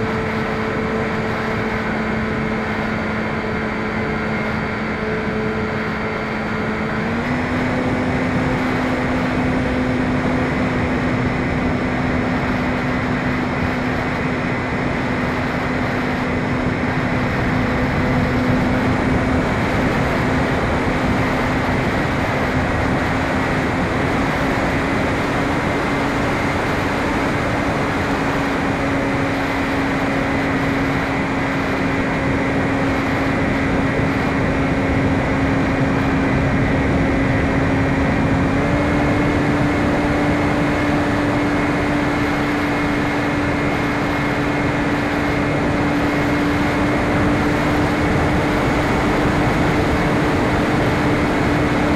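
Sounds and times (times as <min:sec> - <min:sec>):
electric motor and propeller humming: 0:00.0 - 0:51.9.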